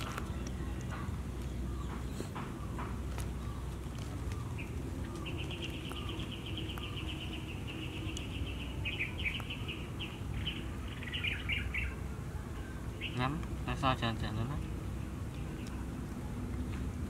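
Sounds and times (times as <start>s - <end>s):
bird singing trills and chirps: 0.0s - 16.7s.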